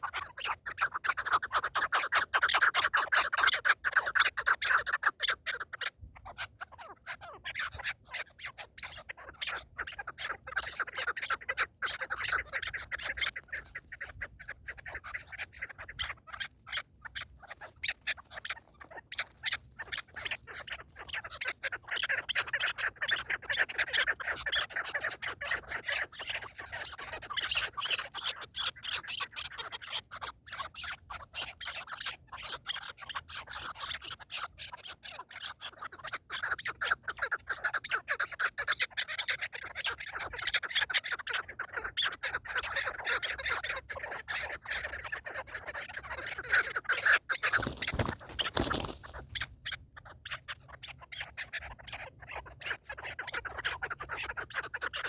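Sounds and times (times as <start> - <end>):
partridges calling: 0.0 - 55.0.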